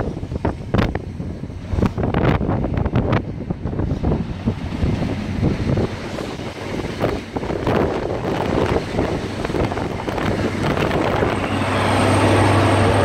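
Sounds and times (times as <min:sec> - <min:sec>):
diesel engine drone: 0:00.8 - 0:13.0.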